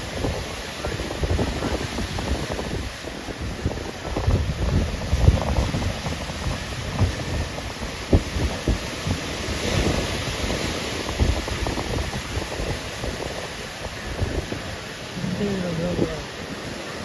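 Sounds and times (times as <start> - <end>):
sea waves washing onto shore: 0.0 - 17.0
wind buffeting microphone: 0.0 - 17.0.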